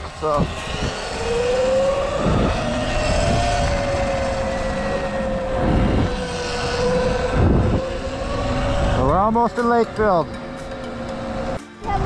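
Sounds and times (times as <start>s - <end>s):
electric dirt bike motor whining: 0.0s - 12.0s
low rumble: 0.0s - 12.0s.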